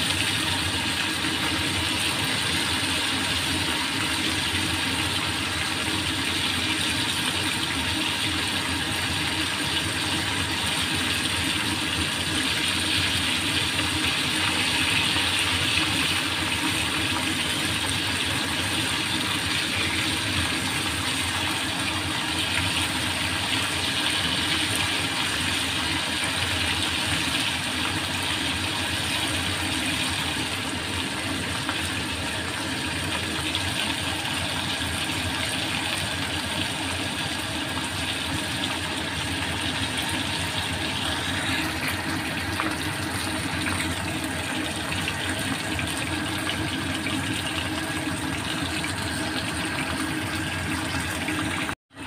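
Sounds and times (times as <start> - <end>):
meat sizzling in a wok: 0.0 - 49.7.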